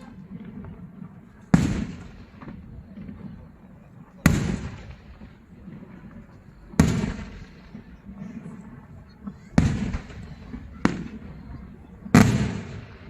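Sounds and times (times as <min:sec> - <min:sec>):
firework bangs echoing: 0:00.0 - 0:13.0.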